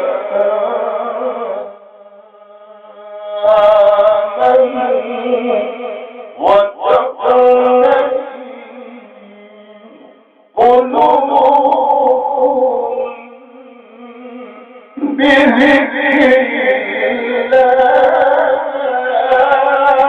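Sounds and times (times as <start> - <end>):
man chanting recitation: 0.0 - 20.0.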